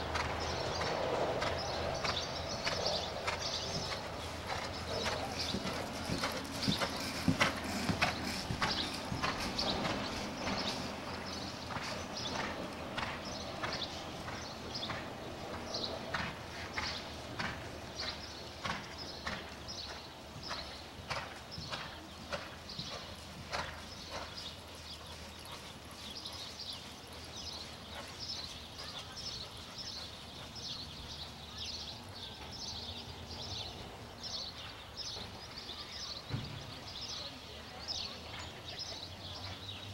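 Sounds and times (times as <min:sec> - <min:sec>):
horse hoofbeats: 0:00.0 - 0:32.8.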